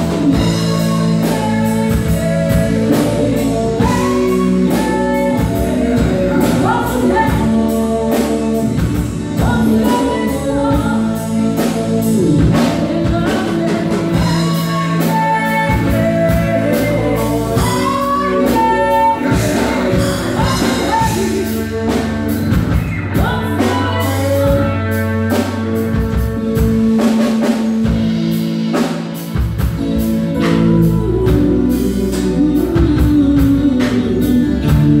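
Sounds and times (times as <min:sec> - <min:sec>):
person singing: 0:00.0 - 0:28.9, 0:29.7 - 0:35.0
live rock band playing: 0:00.0 - 0:35.0
steady drum beat: 0:00.0 - 0:35.0.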